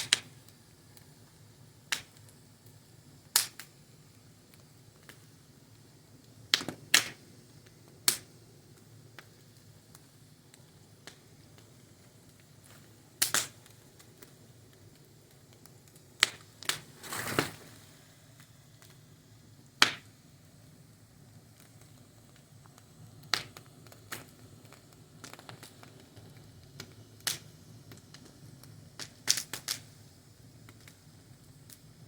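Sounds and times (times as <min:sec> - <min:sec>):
faint steady background: 0:00.0 - 0:32.0
fire crackling and popping: 0:00.0 - 0:32.0.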